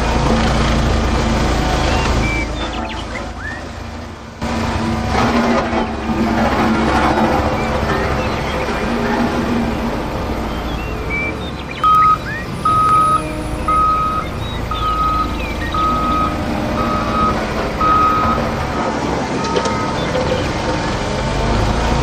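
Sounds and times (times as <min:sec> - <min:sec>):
low engine rumble: 0:00.0 - 0:22.0
reversing alarm beeping: 0:01.4 - 0:04.0, 0:04.9 - 0:22.0.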